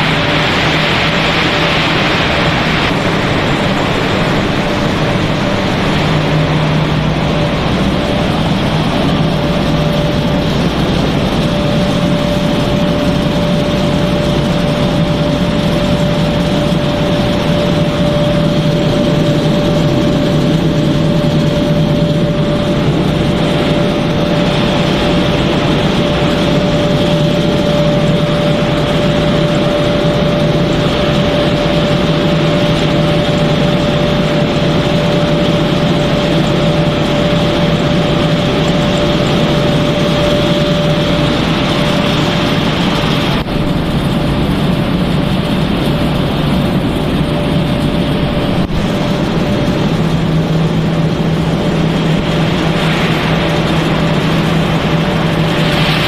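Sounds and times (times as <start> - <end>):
machinery hum: 0.0 - 56.0
steady machine whine: 0.0 - 56.0.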